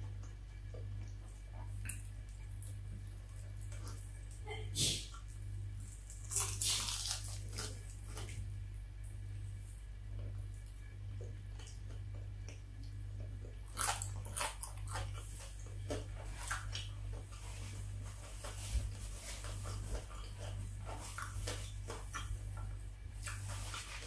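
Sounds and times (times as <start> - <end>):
crunchy chewing of fried chicken: 0.0 - 24.0
low steady hum: 0.0 - 24.0.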